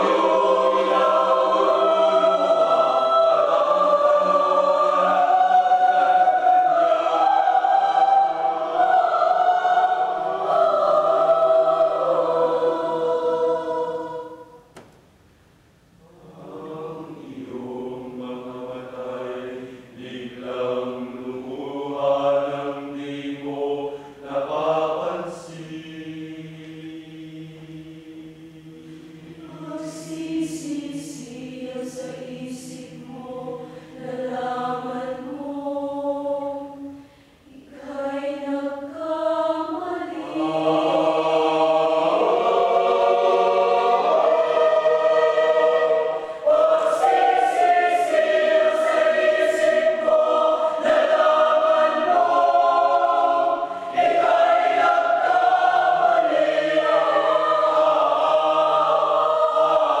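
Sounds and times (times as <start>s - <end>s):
mixed choir singing: 0.0s - 14.8s, 16.0s - 60.0s.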